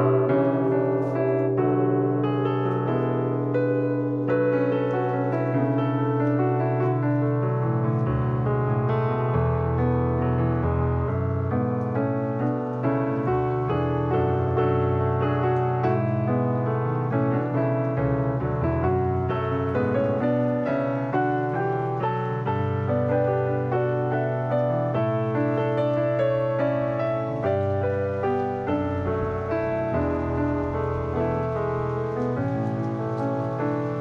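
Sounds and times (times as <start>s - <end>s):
soft keyboard background music: 0.0s - 34.0s.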